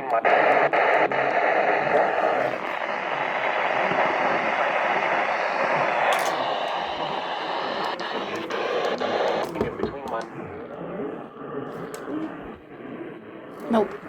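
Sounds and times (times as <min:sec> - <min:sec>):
radio static hiss and crackle: 0:00.0 - 0:14.0.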